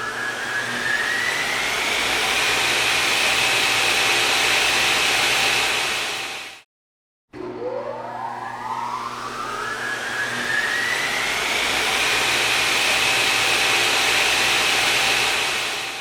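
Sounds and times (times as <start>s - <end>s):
motor whine spinning up: 0.0s - 6.6s, 7.4s - 16.0s.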